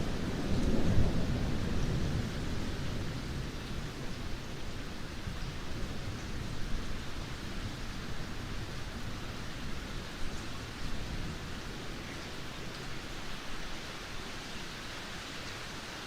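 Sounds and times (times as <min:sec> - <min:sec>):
low rumble of thunder: 0:00.0 - 0:14.2
steady rain falling: 0:00.0 - 0:16.0.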